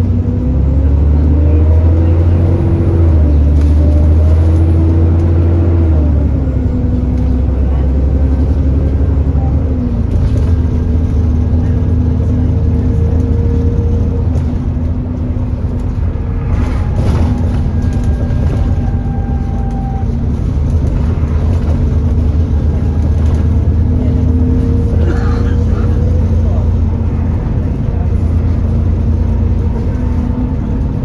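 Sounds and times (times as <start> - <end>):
bus diesel engine rumble: 0.0 - 31.0.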